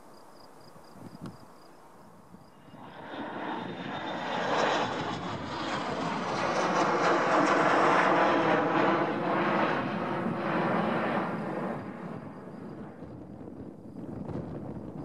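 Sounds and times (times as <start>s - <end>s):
jet engines at taxi power: 1.1s - 15.0s.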